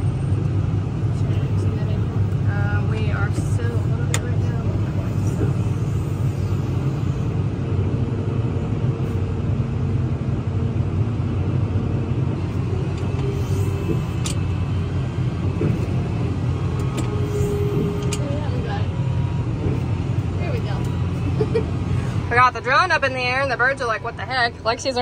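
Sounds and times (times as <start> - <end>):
tractor engine rumble: 0.0 - 25.0.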